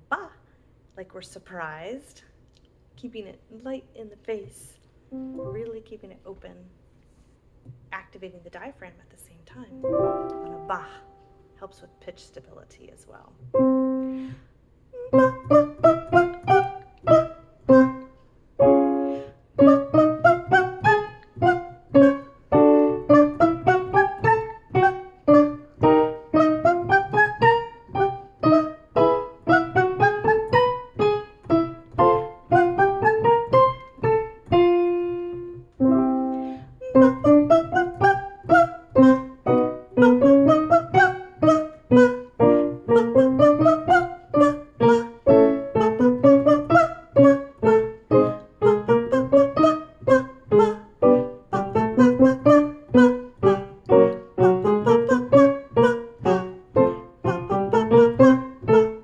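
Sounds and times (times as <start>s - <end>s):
piano playing detached notes: 5.1s - 5.7s, 9.7s - 11.6s, 13.4s - 14.4s, 15.0s - 59.0s.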